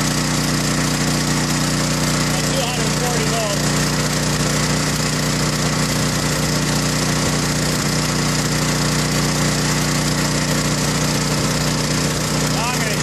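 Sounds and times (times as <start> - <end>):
generator engine running: 0.0 - 13.0.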